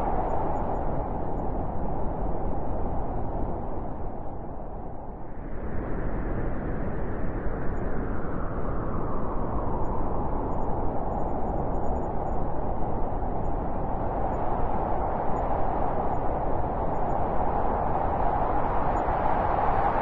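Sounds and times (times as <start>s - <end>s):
wind blowing hard: 0.0s - 20.0s.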